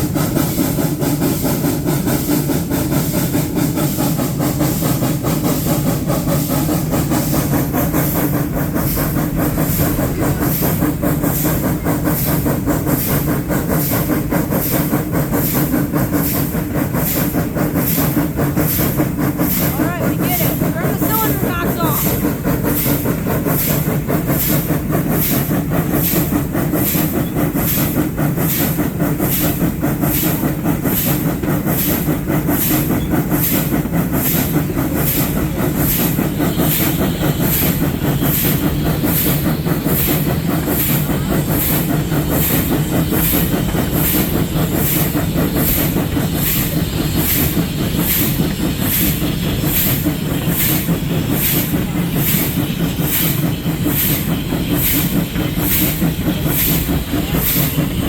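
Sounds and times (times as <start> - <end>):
hissing steam: 0.0 - 58.0
steam locomotive exhaust chuffs: 0.0 - 58.0
train rumbling on rails: 0.0 - 58.0.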